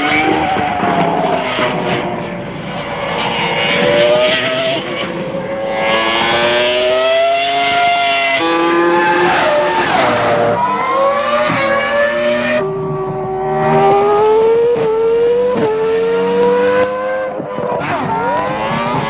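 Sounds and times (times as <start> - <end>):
racing car engine at high revs: 0.0 - 19.0.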